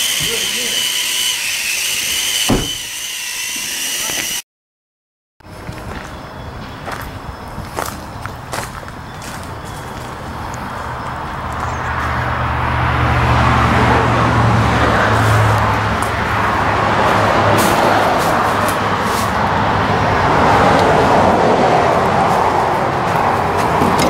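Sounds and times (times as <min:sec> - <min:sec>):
road traffic drone: 0:00.0 - 0:04.4, 0:05.4 - 0:24.0.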